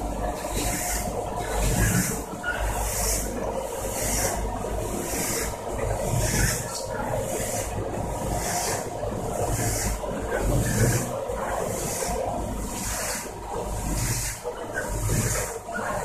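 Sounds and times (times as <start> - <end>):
machinery motor hum: 0.0 - 16.0
rotating drum hissing swish: 0.0 - 16.0.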